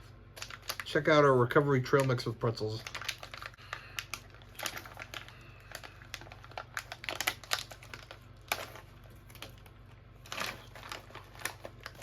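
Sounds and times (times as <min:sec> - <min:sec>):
plastic pouch crinkling: 0:00.0 - 0:12.0.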